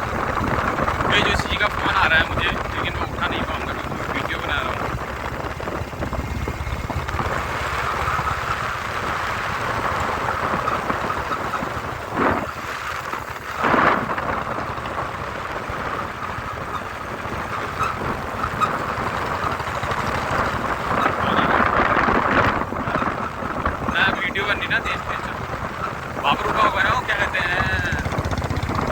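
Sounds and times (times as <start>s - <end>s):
motorcycle running: 0.0s - 28.9s
wind rushing over microphone: 0.0s - 28.9s.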